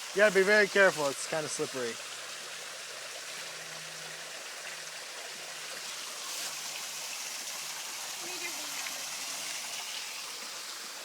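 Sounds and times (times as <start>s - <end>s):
water rushing in small waterfall: 0.0s - 11.0s.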